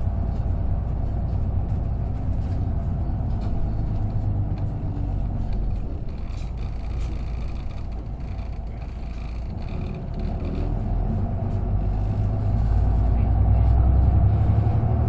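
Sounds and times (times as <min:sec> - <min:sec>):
bus diesel engine hum: 0:00.0 - 0:15.0
faint rattles: 0:00.4 - 0:12.8.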